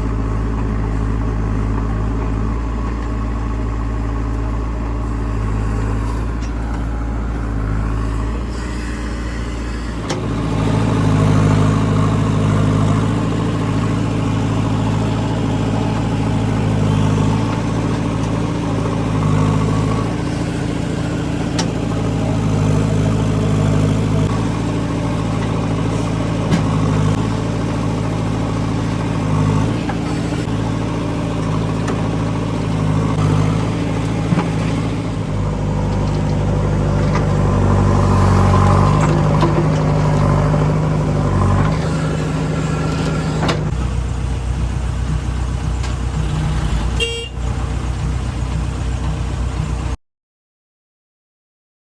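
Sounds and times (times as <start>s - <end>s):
heavy diesel engine running: 0.0s - 50.0s.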